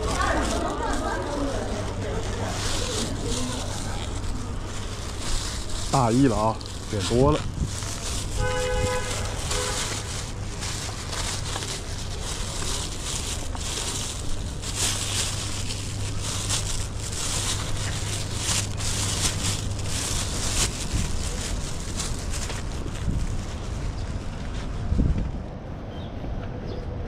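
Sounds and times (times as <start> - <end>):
plastic bag crinkling: 0.0 - 24.3.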